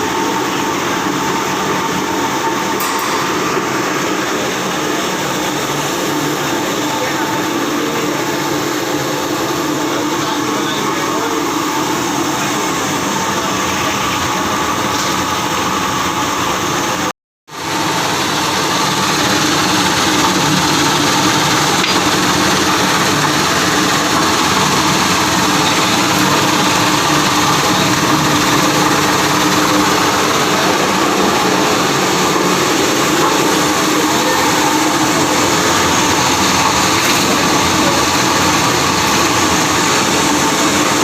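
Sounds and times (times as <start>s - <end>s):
washing machine running: 0.0s - 41.0s.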